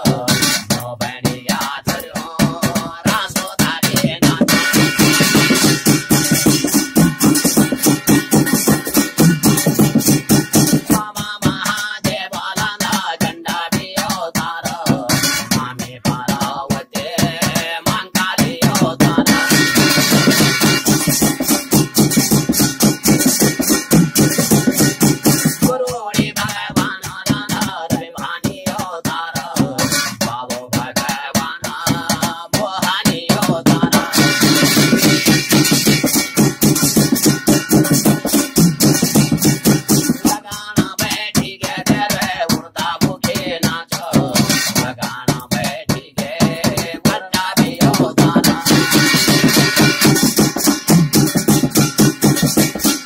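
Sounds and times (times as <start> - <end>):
man singing: 0.0 - 7.8, 9.6 - 21.6, 23.2 - 37.3, 37.9 - 50.7
fast drum strokes: 0.0 - 53.0.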